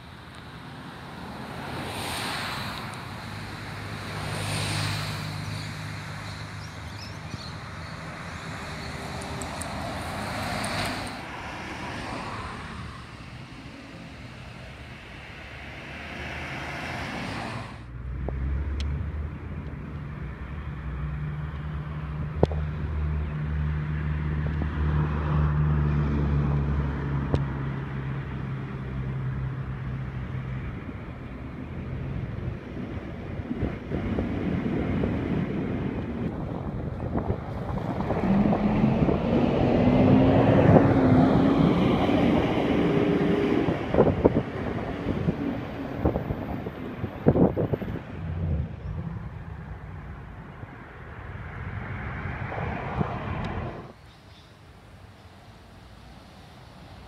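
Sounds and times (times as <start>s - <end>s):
bus engine drone: 0.0s - 57.0s
cars passing: 0.0s - 57.0s.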